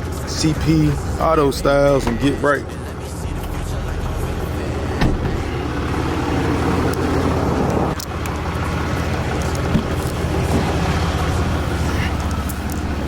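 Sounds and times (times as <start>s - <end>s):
road noise: 0.0s - 13.0s
truck engine running: 0.0s - 13.0s.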